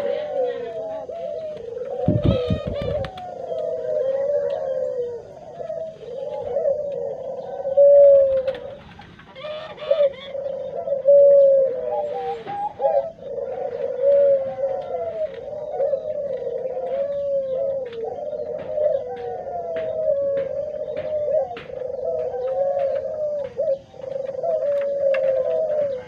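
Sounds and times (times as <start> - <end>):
flock of doves cooing: 0.0 - 26.0.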